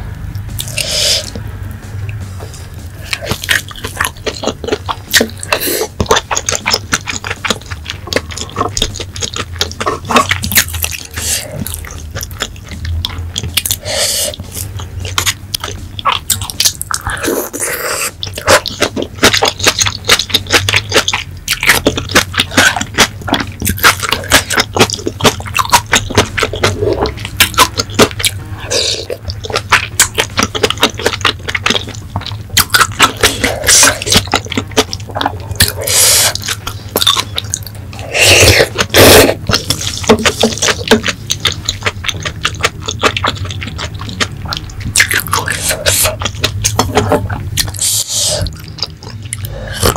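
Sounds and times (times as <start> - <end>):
wet chewing and lip smacks: 2.1 - 49.9.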